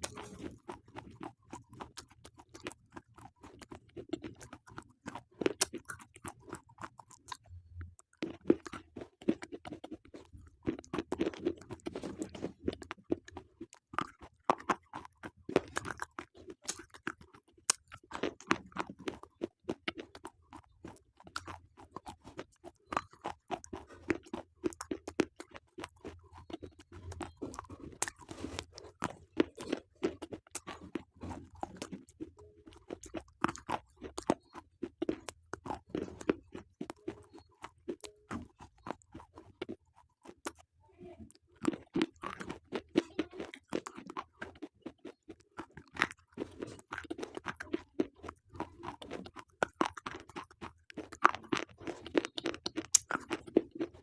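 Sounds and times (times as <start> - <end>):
crunching of chewed pencils: 0.0 - 54.0.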